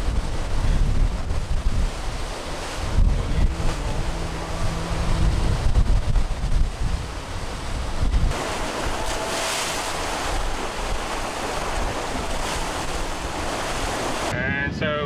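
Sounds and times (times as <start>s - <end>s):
sea water rushing along hulls: 0.0s - 14.6s
wind buffeting microphone: 0.0s - 15.0s.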